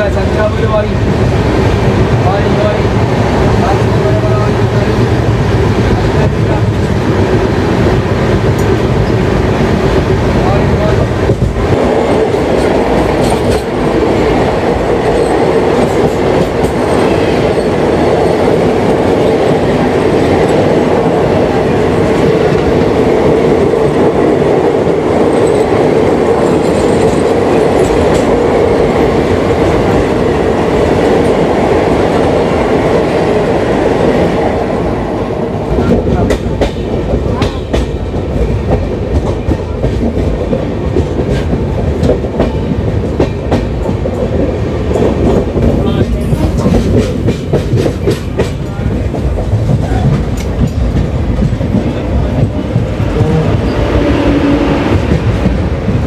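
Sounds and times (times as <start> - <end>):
passing train wheels rushing: 0.0 - 56.0.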